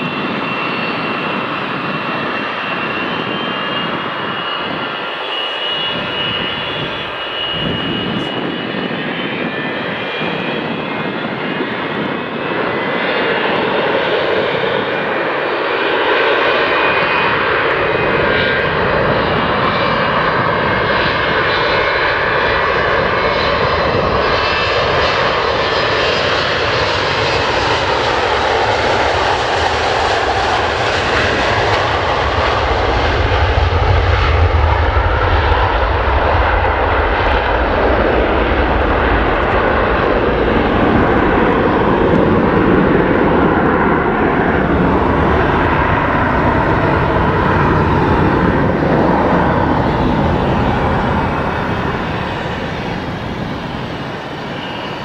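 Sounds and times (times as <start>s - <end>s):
deep rumble of aircraft climbing: 0.0s - 55.0s
jet engines roaring: 0.0s - 55.0s.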